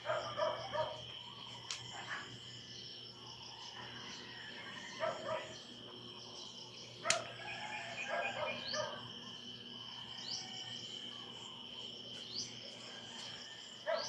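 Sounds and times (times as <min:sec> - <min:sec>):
cricket trill: 0:00.0 - 0:14.0.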